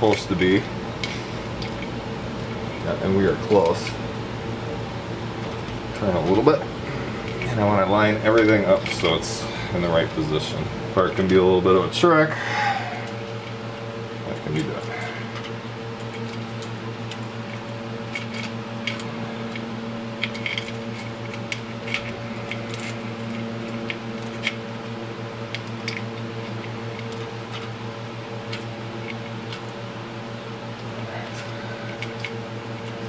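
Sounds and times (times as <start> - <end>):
steady shop hum: 0.0 - 33.0.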